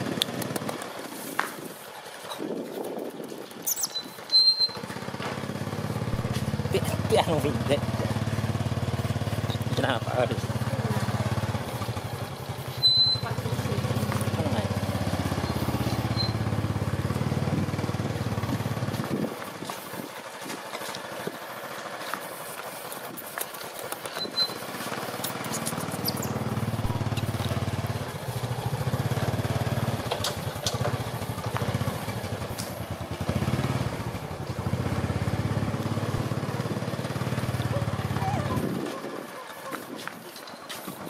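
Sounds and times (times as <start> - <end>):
motorbike engine idling: 4.2 - 39.9.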